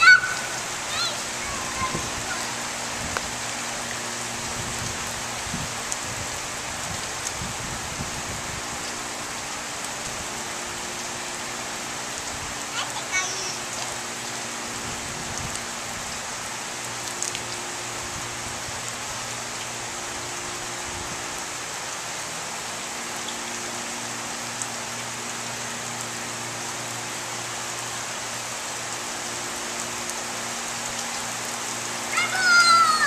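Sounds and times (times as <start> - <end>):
heavy rain on pavement and cars: 0.0 - 33.0.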